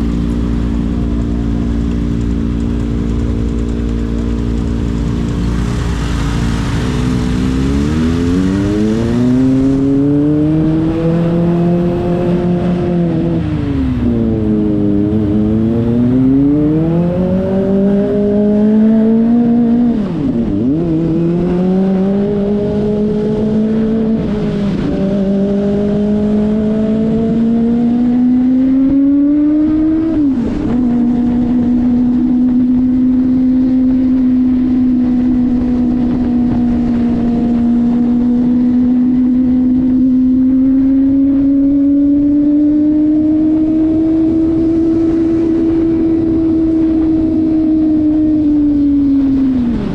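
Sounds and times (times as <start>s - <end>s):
motorcycle engine shifting gears: 0.0s - 49.9s
wind rush: 2.9s - 28.2s, 28.8s - 49.9s.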